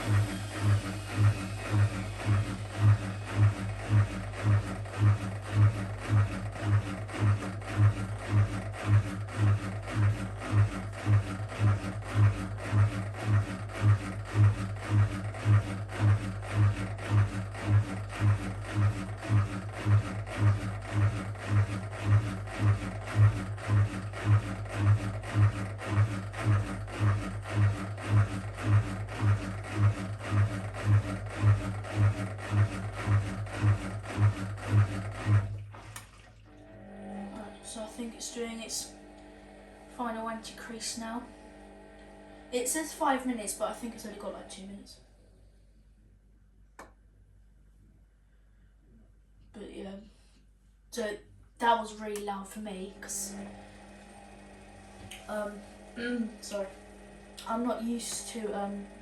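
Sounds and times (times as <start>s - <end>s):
low pulsing motor hum: 0.0s - 46.2s, 51.0s - 59.0s.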